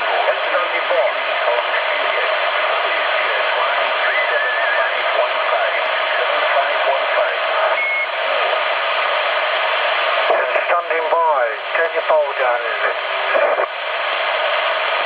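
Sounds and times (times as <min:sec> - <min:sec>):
faint garbled radio voices: 0:00.0 - 0:15.0
radio hiss and static: 0:00.0 - 0:15.0.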